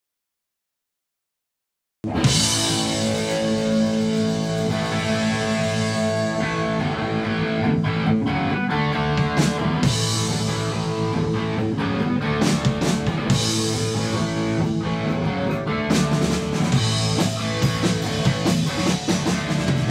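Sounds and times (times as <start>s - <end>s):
punk rock band playing: 2.0s - 19.9s.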